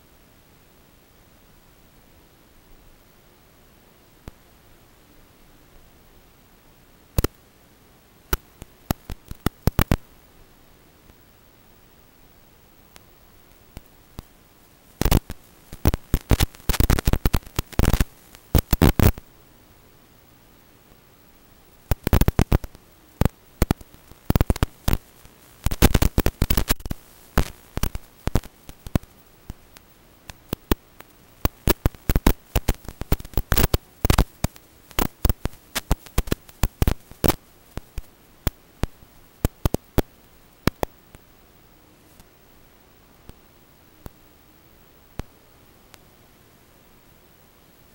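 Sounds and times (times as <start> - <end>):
crackling static clicks and pops: 0.0 - 47.9
faint hiss: 0.0 - 47.9.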